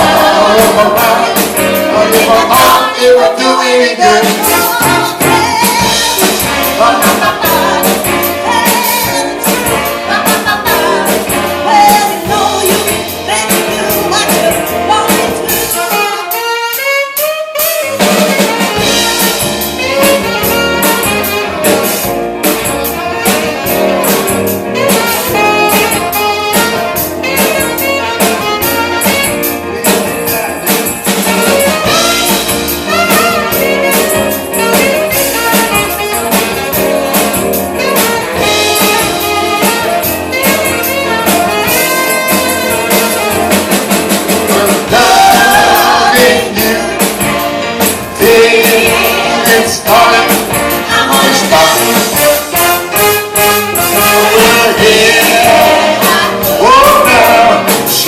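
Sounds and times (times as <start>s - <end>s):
live jazz band with horns: 0.0s - 58.0s.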